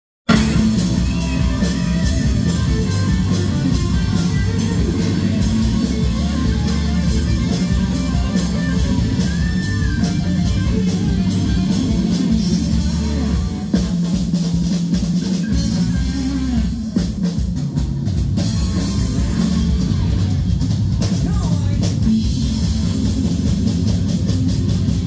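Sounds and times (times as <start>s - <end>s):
rock band playing live: 0.2s - 25.0s
drum and cymbal hits: 0.3s - 25.0s.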